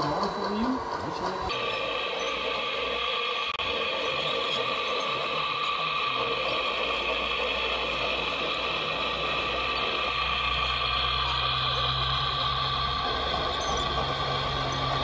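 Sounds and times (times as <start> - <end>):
hydraulic pump whine: 0.0 - 15.0
low hum: 0.0 - 15.0.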